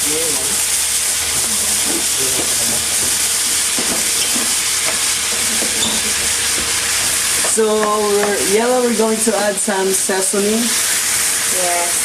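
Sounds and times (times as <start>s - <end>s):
meat and vegetables sizzling in a pan: 0.0s - 12.0s.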